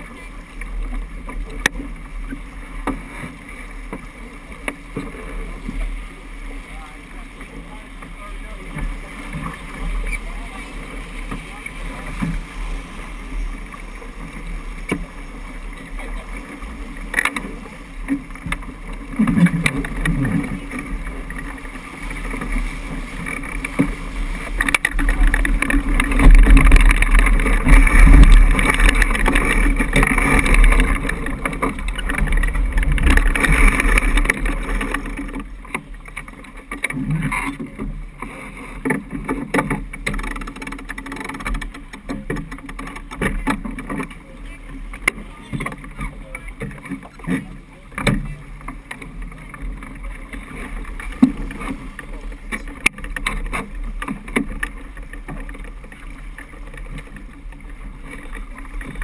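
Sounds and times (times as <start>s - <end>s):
water splashing along hull: 0.0s - 59.0s.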